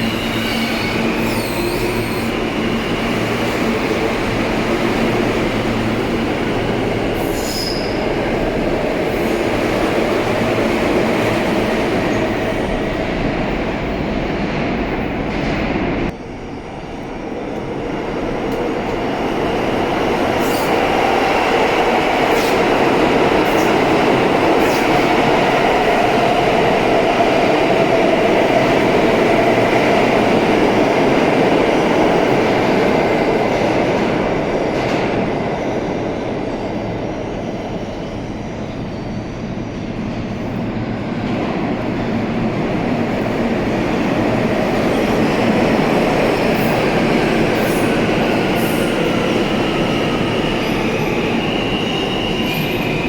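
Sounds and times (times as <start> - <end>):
subway train wheels rumbling on rail: 0.0 - 53.0.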